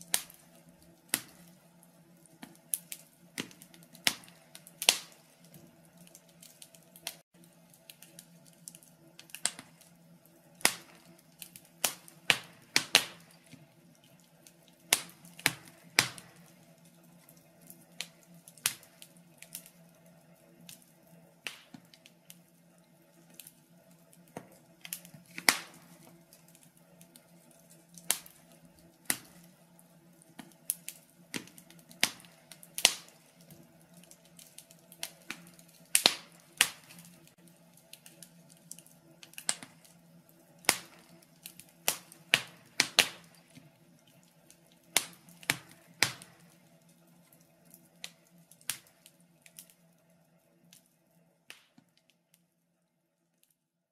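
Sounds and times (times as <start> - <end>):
wood fire crackling: 0.0 - 53.7
faint steady hum: 0.0 - 53.8.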